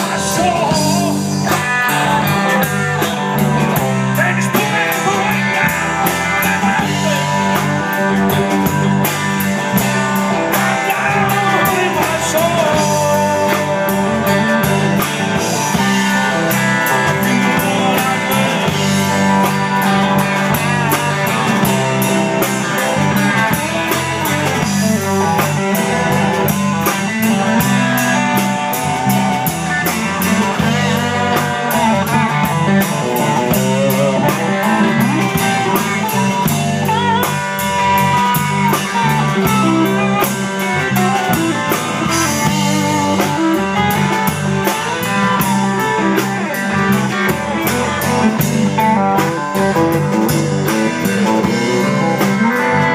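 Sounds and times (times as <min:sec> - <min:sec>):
blues-rock band playing: 0:00.0 - 0:52.9
lead guitar: 0:00.0 - 0:52.9.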